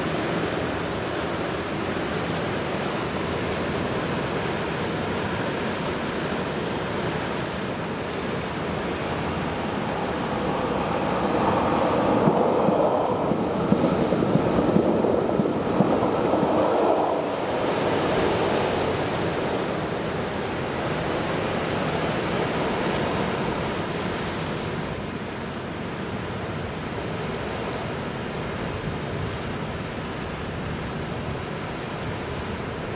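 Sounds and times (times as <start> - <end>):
sea waves washing in: 0.0 - 32.9
wind: 0.0 - 32.9.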